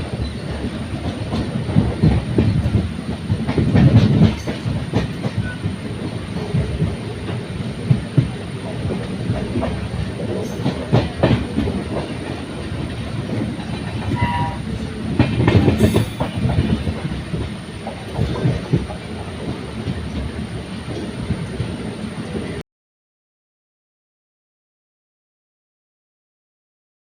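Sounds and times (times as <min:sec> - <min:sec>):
train wheels clacking over rail joints: 0:00.0 - 0:21.7
train rumble: 0:00.0 - 0:22.6.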